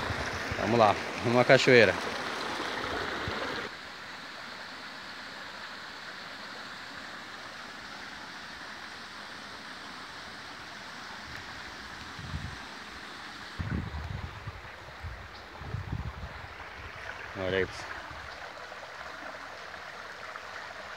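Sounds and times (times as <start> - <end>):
stream water rushing over rock: 0.0 - 20.9.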